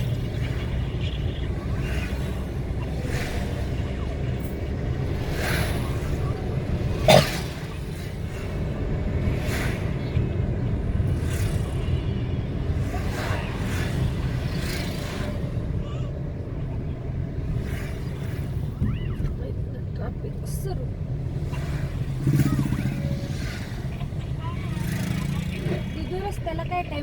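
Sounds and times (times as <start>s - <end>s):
low road rumble: 0.0s - 27.0s
vehicles whooshing past: 0.0s - 27.0s.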